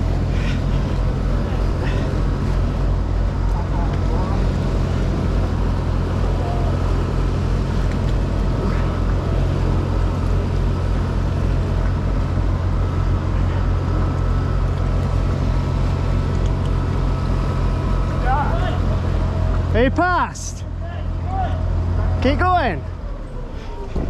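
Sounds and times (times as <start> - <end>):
boat engine low throb: 0.0 - 24.0.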